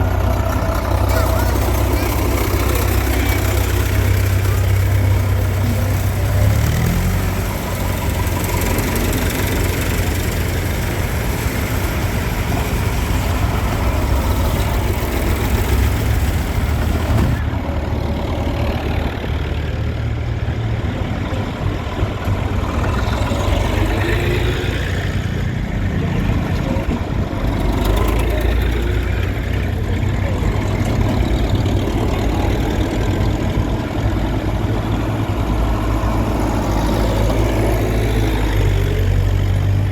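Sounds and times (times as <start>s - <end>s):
tractor engines rumbling: 0.0s - 39.9s.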